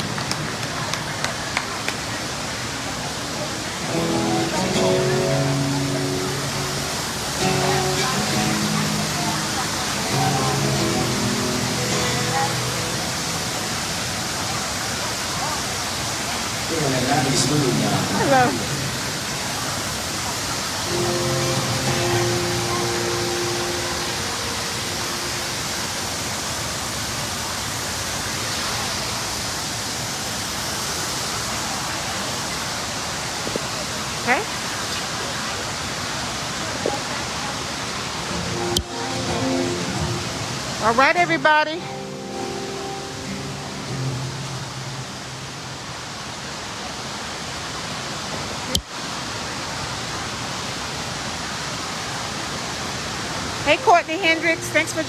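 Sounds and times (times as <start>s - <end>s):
wind and water rushing: 0.0s - 55.0s.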